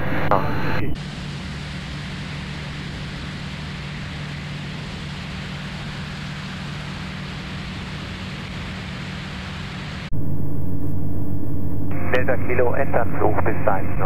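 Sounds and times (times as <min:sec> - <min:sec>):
low aircraft engine drone: 0:00.0 - 0:14.0.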